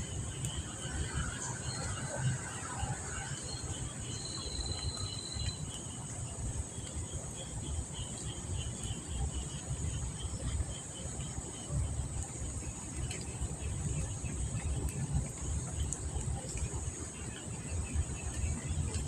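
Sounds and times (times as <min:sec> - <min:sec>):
insects chirping and trilling: 0:00.0 - 0:19.0.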